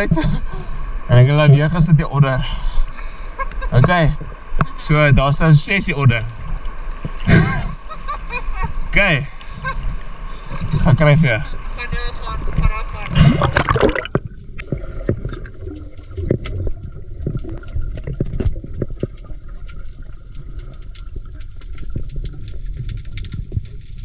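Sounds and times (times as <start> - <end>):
muffled underwater rumble: 0.0 - 24.0
water splashing: 1.1 - 24.0
underwater clicks and crackles: 2.9 - 7.6, 9.3 - 24.0.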